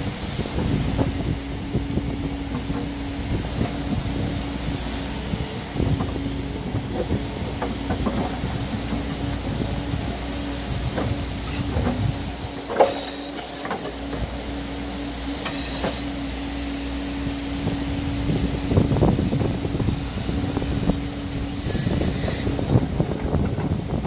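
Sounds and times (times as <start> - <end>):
excavator diesel engine hum: 0.0 - 24.0.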